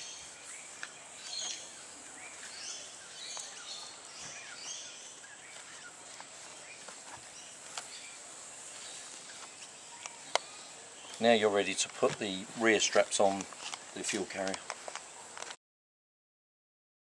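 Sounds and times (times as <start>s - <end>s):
birds chirping: 0.0s - 15.4s
steady high hiss: 0.0s - 15.6s.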